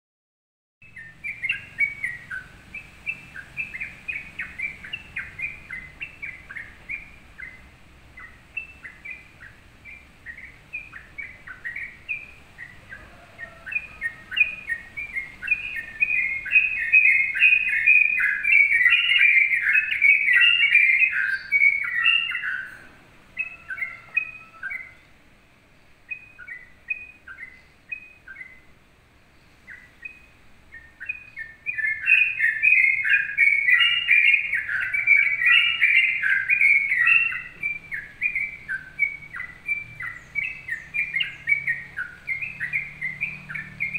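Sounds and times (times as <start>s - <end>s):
songbird chattering song: 0.8s - 43.9s.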